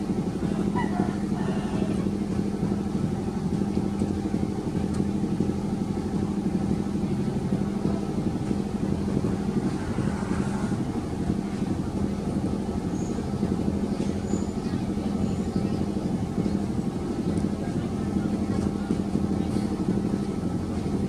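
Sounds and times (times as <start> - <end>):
engine droning hum: 0.0 - 21.0.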